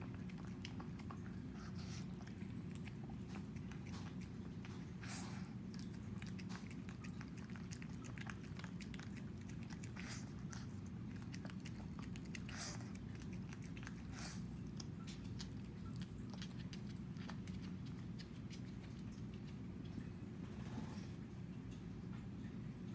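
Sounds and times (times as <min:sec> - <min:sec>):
dog chewing and licking: 0:00.0 - 0:20.1.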